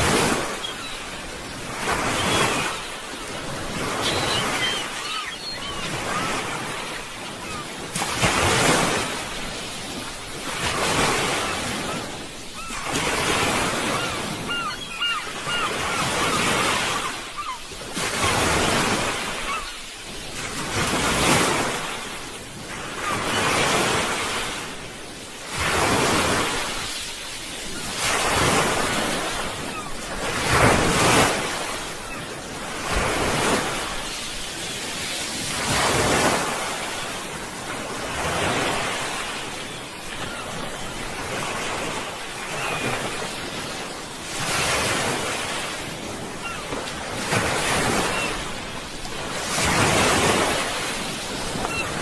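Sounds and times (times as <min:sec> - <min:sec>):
sea waves surging: 0:00.0 - 0:52.0.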